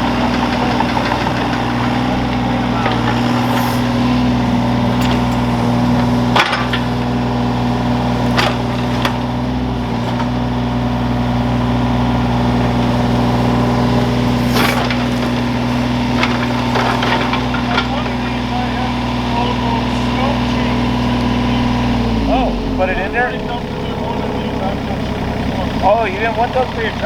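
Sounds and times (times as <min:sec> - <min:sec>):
excavator engine running: 0:00.0 - 0:27.0.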